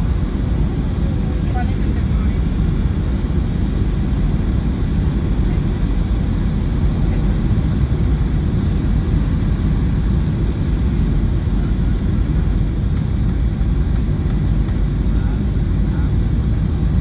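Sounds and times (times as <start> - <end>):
aircraft engine drone: 0.0 - 17.0
airflow over fuselage: 0.0 - 17.0.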